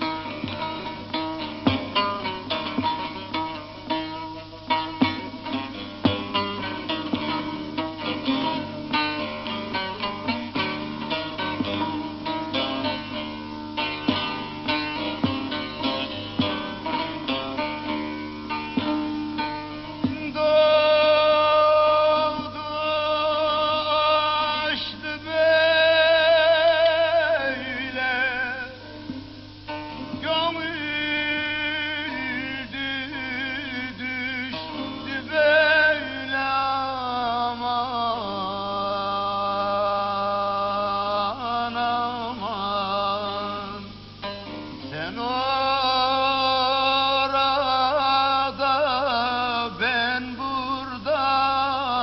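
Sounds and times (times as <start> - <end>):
long-necked lute plucked: 0.0 - 52.0
man singing with vibrato: 0.0 - 52.0.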